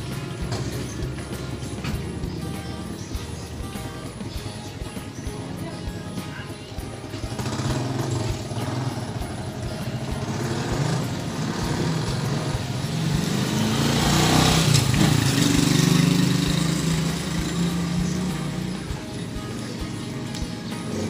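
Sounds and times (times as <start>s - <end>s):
motor engine humming: 0.0s - 21.0s.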